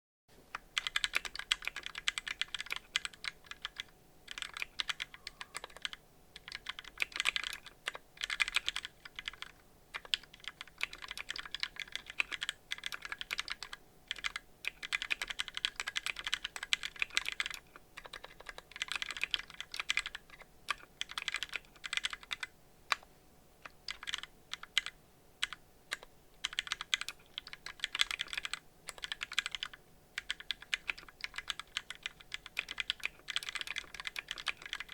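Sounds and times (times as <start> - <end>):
typing on mechanical keyboard: 0.5 - 34.9.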